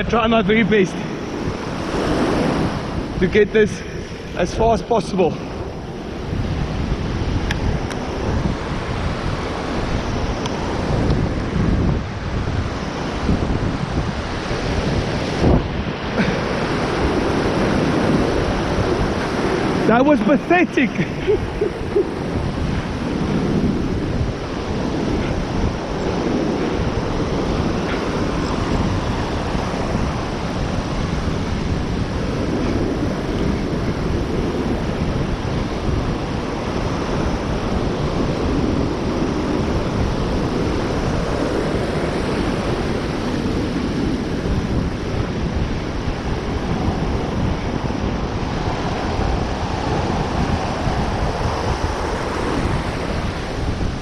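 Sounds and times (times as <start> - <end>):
surf breaking on beach: 0.0 - 54.0
wind buffeting microphone: 0.0 - 54.0.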